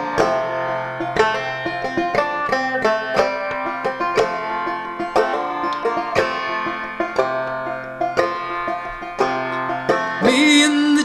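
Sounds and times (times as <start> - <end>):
banjo playing: 0.0 - 11.0.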